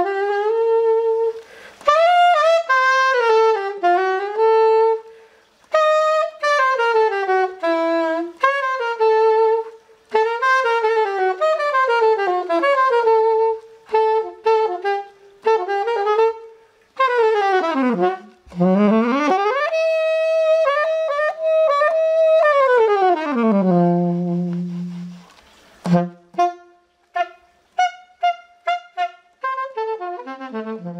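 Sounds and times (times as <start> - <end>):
alto saxophone playing solo: 0.0 - 30.9.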